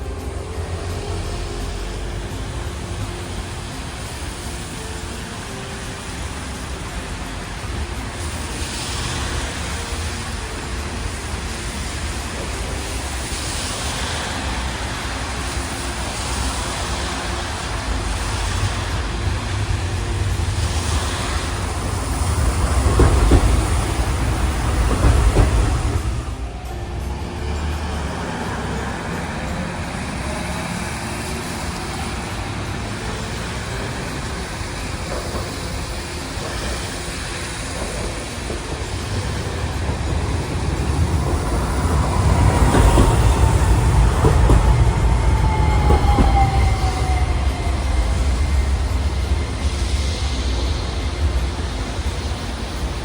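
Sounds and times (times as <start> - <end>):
low traffic rumble: 0.0 - 53.0
trams running: 0.0 - 53.0
tyres hissing on wet road: 0.0 - 53.0.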